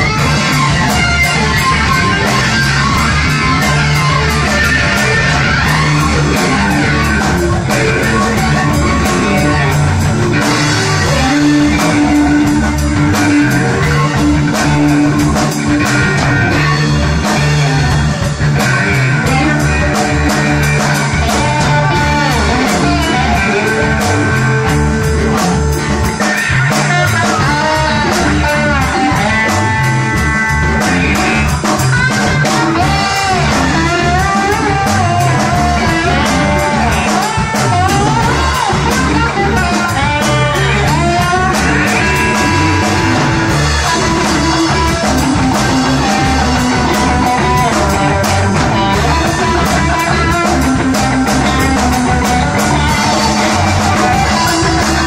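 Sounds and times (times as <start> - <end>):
electric guitar lead with bent notes: 0.0 - 55.0
live rock band: 0.0 - 55.0
steady drum beat: 0.0 - 55.0.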